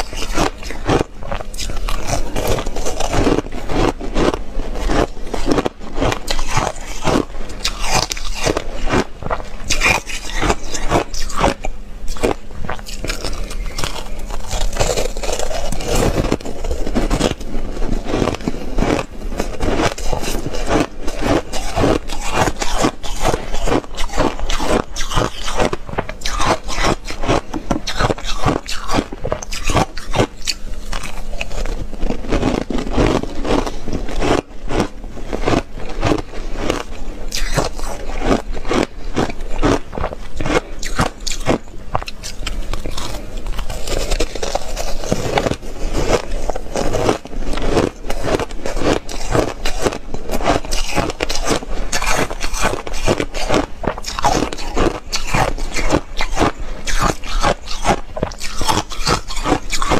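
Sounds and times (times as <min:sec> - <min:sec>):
chewing ice crunches: 0:00.0 - 0:59.9.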